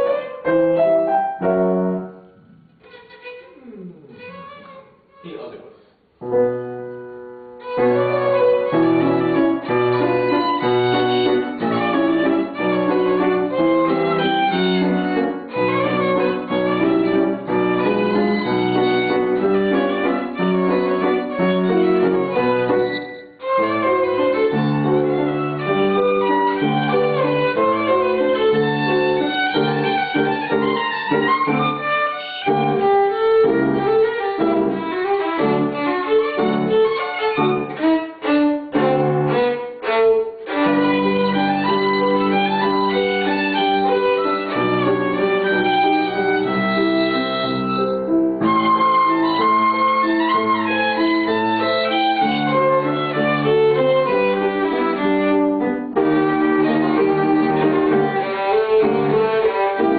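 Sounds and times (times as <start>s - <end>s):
violin solo: 0.0s - 0.8s, 2.1s - 5.7s, 7.5s - 59.9s.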